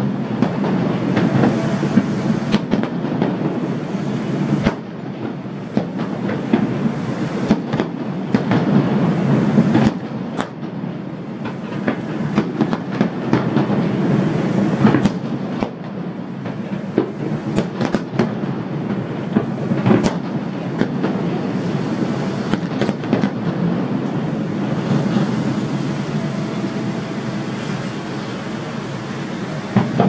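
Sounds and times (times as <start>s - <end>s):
distant fireworks rumble: 0.0s - 30.0s
fireworks bangs and crackles: 0.0s - 30.0s.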